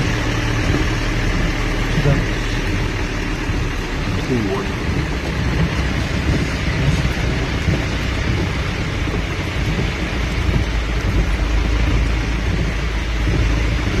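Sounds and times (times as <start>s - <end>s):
constant low rumble: 0.0s - 14.0s
rain on a car: 0.0s - 14.0s
tyres on flooded road: 0.0s - 14.0s.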